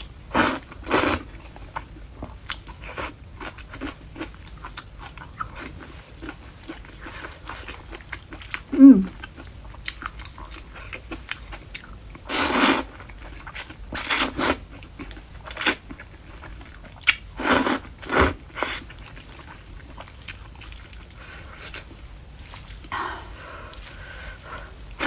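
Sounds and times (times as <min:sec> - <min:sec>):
person slurping and chewing noodles: 0:00.3 - 0:25.0.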